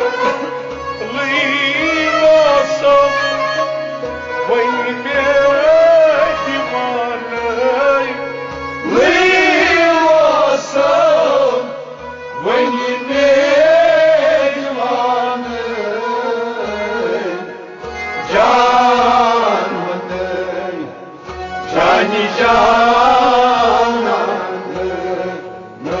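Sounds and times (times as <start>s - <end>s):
held instrumental tone: 0.0s - 26.0s
man singing: 0.0s - 26.0s.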